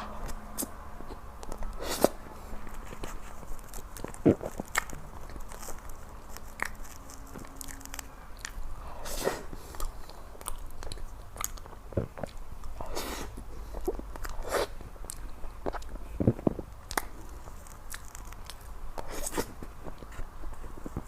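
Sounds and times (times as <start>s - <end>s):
person chewing: 0.0s - 21.0s.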